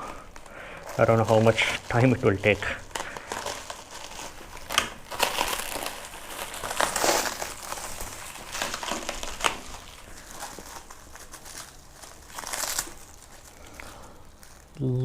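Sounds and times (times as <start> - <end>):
knife cutting plastic packaging: 0.0 - 14.7
packaging rustling: 0.0 - 14.8.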